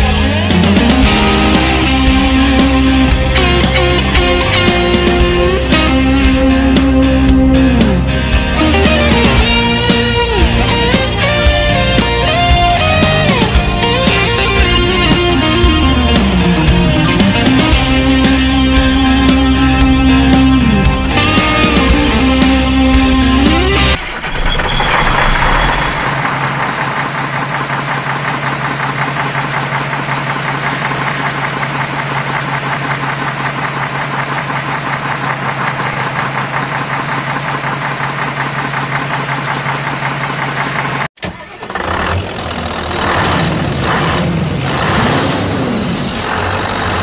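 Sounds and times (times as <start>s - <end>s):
engine with rising and falling pitch: 0.0s - 47.0s
large vehicle engine idling: 0.0s - 47.0s.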